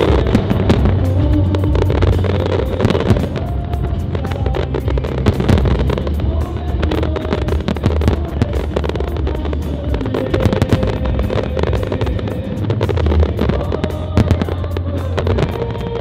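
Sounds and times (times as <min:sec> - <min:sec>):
fireworks popping and crackling: 0:00.0 - 0:16.0
heavy low rumble: 0:00.0 - 0:16.0
show music: 0:00.0 - 0:16.0.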